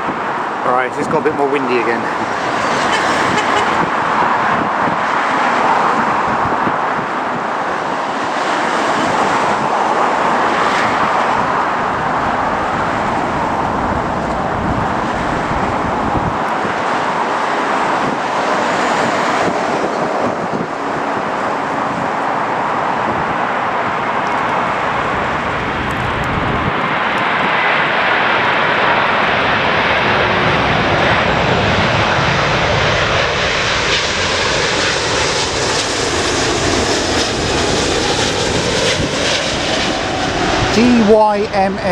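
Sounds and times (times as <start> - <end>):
jet engines roaring: 0.0 - 41.9
wind rumbling on microphone: 0.0 - 41.9.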